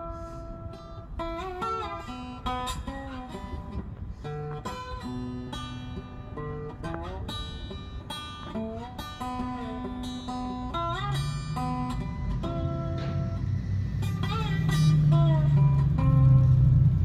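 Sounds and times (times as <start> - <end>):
guitar plucking sliding notes: 0.0 - 17.0.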